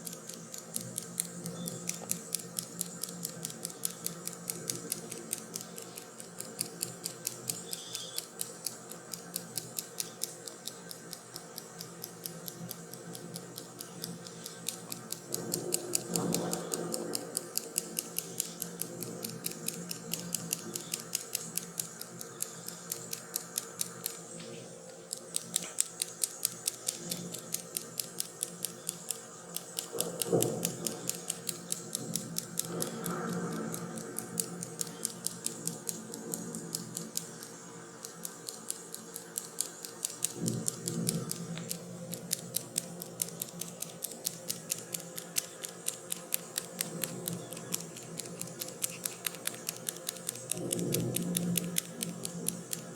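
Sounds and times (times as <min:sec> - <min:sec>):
rapid clicking: 0:00.0 - 0:52.9
steady hiss: 0:00.0 - 0:52.9.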